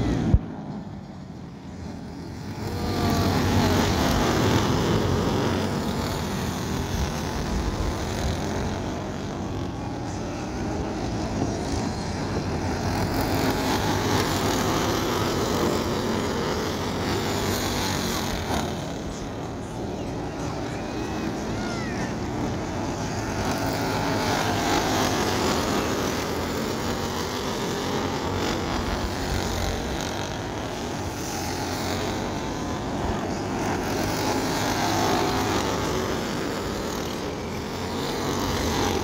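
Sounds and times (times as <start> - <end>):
kart engines racing: 0.0 - 39.0.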